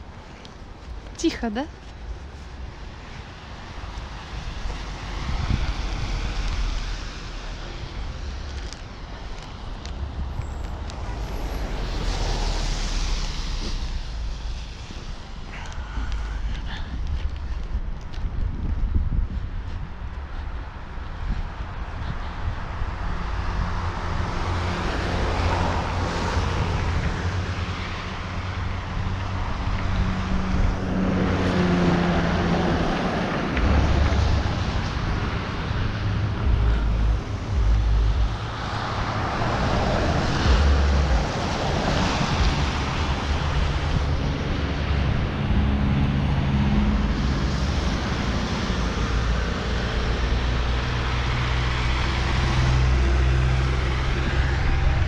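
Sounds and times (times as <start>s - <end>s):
cars passing: 0.0s - 55.0s
wind buffeting microphone: 1.8s - 55.0s.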